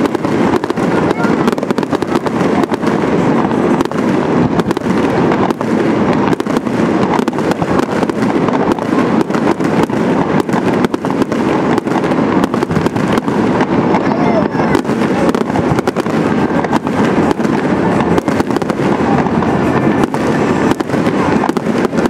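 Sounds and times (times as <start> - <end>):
fireworks bursting and crackling: 0.0 - 22.0.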